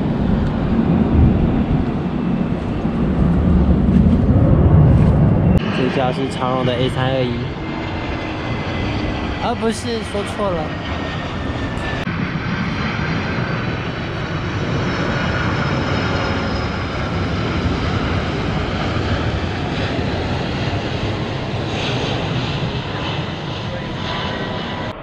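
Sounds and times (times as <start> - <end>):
jet airliner engine rumble: 0.0 - 25.0.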